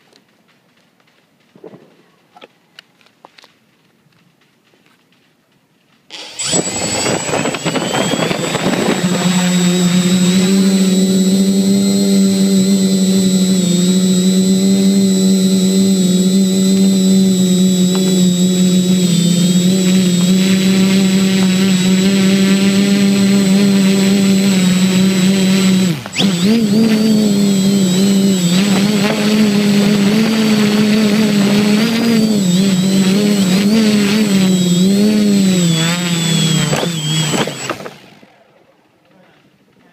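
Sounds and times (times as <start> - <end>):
electric motors and propellers humming: 6.1 - 38.6.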